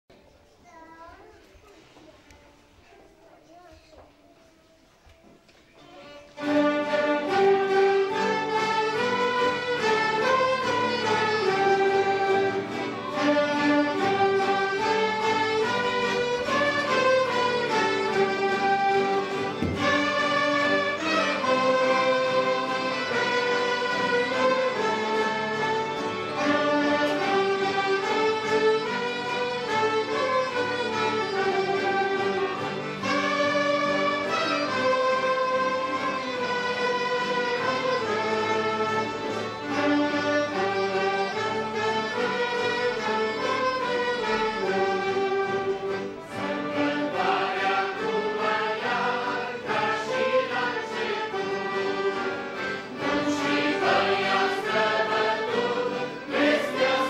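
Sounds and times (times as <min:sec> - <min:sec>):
small orchestra playing: 0:05.8 - 0:57.0.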